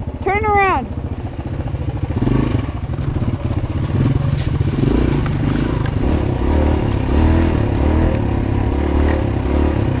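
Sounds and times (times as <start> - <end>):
dirt bike engine revving: 0.5 - 10.0.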